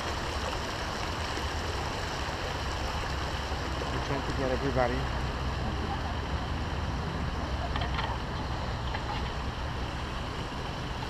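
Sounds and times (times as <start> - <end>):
fountain jets splashing: 0.0 - 11.0.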